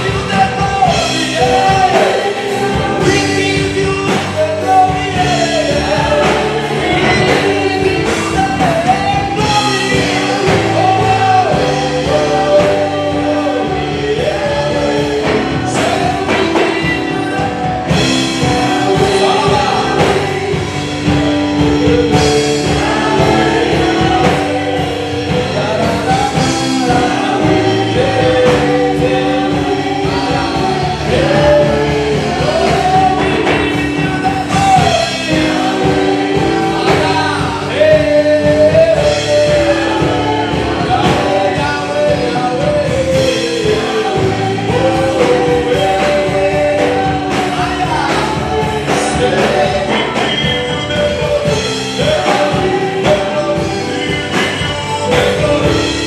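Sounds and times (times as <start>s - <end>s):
instrumental accompaniment: 0.0s - 56.0s
voices singing gospel song: 0.0s - 56.0s.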